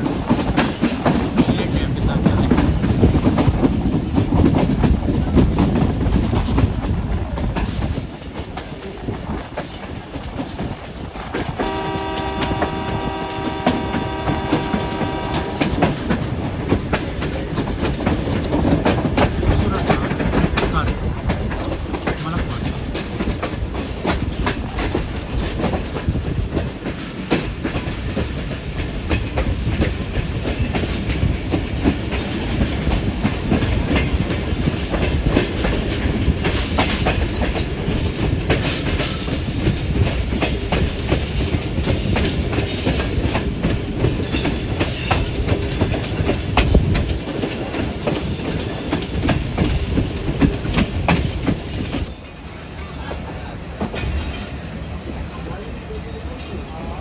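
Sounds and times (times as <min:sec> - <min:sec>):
wheels clattering over rail joints: 0:00.0 - 0:52.2, 0:53.0 - 0:55.2
train rumbling at speed: 0:00.0 - 0:57.0.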